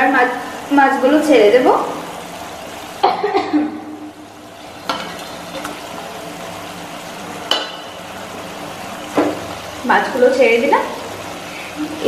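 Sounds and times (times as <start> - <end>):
curry bubbling in a pan: 0.8 - 12.0.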